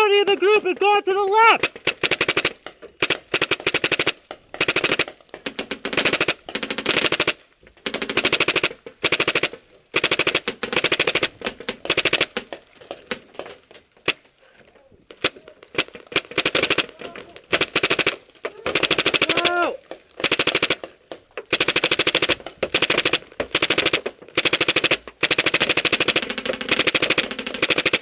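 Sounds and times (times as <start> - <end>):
paintball gun firing bursts: 0.0 - 14.3, 15.1 - 28.0.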